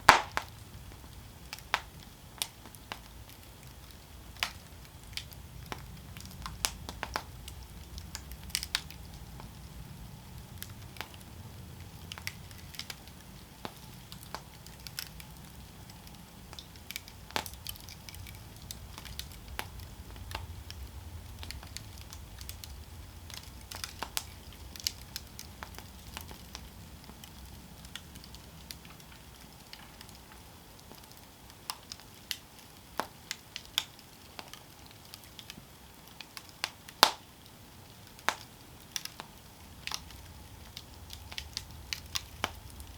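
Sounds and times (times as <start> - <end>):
campfire crackling and popping: 0.0 - 42.9
low rumble of flames: 0.0 - 42.9.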